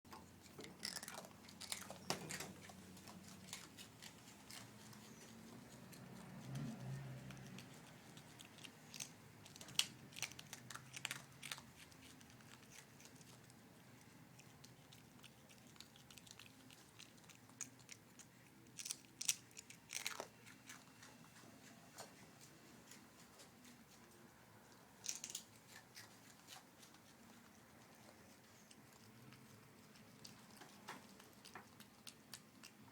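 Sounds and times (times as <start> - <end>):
monkey crunching food: 0.1 - 21.5, 22.8 - 32.9
quiet chewing: 0.1 - 32.9.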